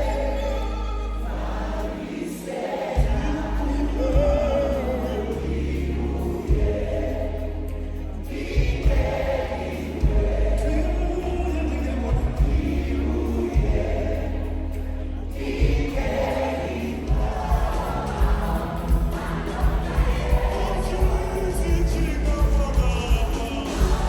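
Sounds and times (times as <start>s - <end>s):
choir singing gospel music: 0.0s - 24.0s
heavy bass line: 3.0s - 24.0s.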